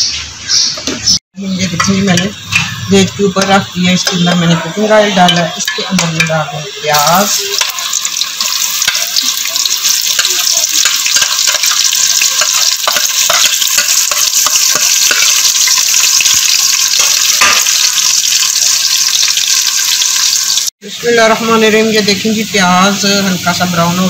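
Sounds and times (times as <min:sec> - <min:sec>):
onions sizzling in hot oil: 0:01.4 - 0:24.0.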